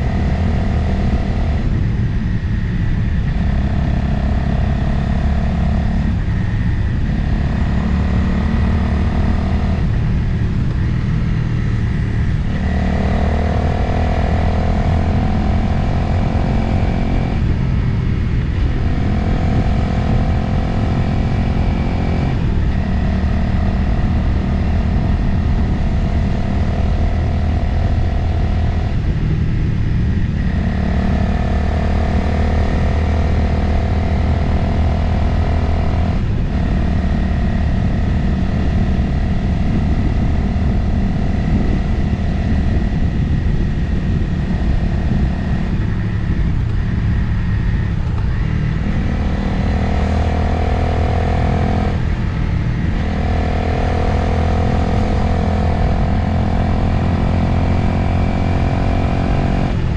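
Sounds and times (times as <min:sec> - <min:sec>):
motorcycle engine riding: 0:00.0 - 0:59.9
wind rush: 0:00.0 - 0:59.9.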